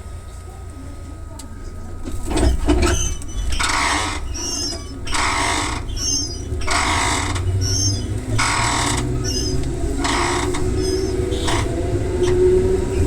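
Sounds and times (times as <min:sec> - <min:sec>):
train low running hum: 0:00.0 - 0:13.0
squeaky rasping noise: 0:02.3 - 0:13.0.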